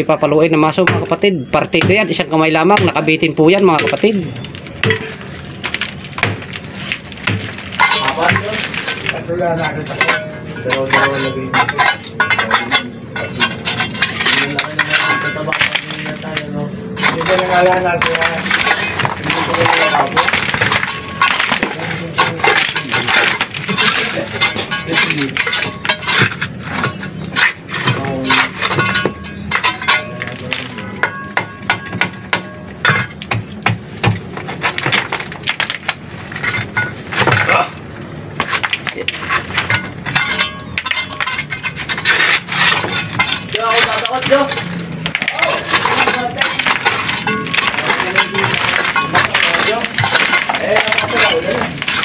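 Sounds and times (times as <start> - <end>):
hammer striking concrete: 0.6 - 52.0
rubble chunks clinking: 0.7 - 52.0.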